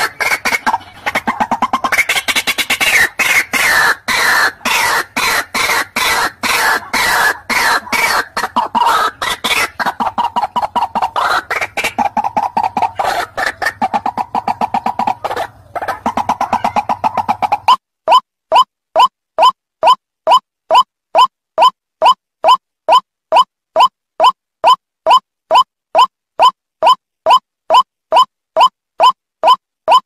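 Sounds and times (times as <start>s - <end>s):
waterhen croaking calls: 0.0s - 30.0s.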